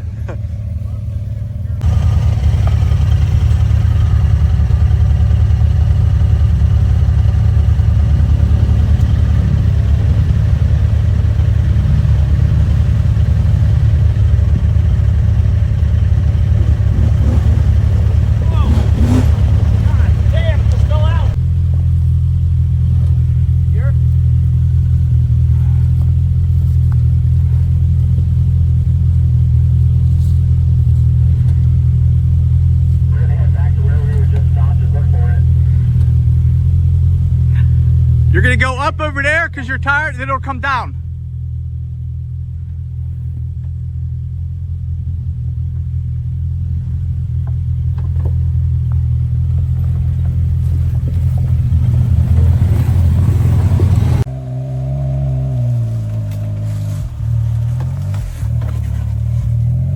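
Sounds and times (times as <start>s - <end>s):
engine droning at low speed: 0.0s - 59.9s.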